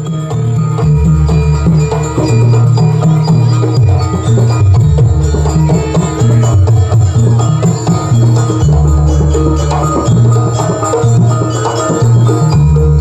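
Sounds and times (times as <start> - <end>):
gamelan music: 0.0 - 13.0.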